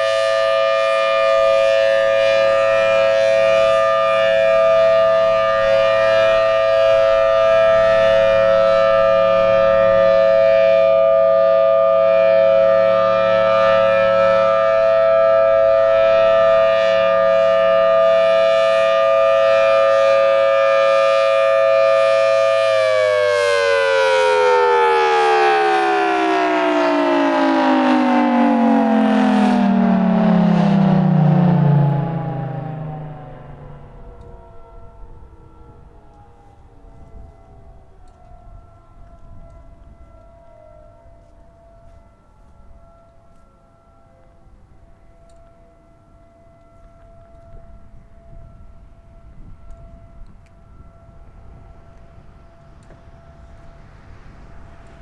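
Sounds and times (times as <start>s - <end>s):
warning siren winding down: 0.0s - 55.0s.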